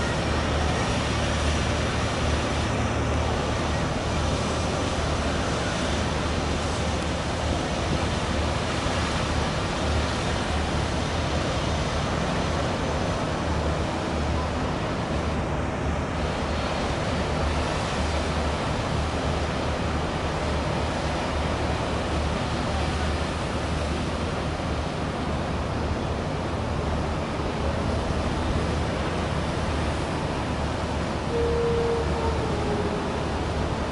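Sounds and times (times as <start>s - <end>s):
low engine drone: 0.0s - 33.9s
rush of water: 0.0s - 33.9s.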